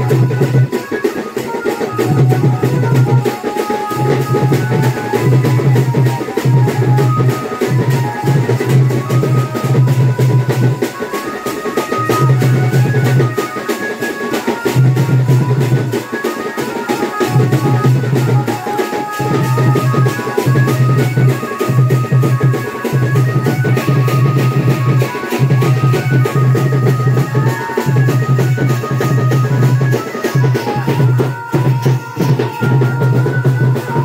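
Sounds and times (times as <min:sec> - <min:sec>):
fast dance drumbeat: 0:00.0 - 0:34.0.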